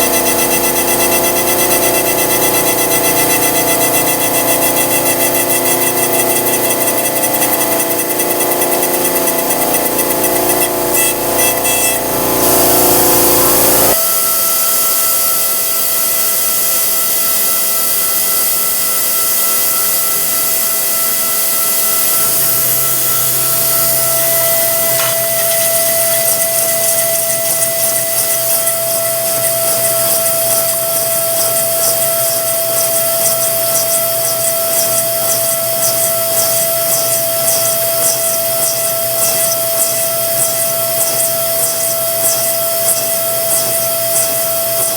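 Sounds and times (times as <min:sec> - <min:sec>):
milling machine whine and grinding: 0:00.0 - 0:44.9.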